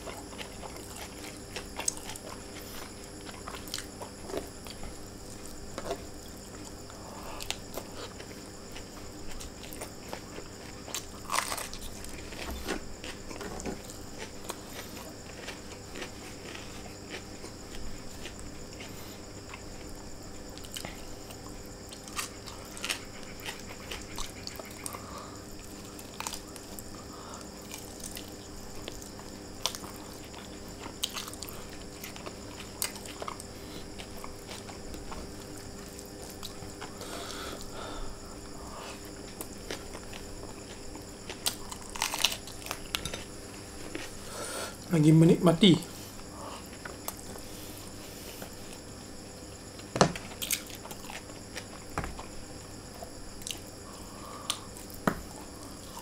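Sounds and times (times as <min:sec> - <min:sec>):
person chewing and biting food: 0:00.0 - 0:44.9, 0:46.1 - 0:56.0.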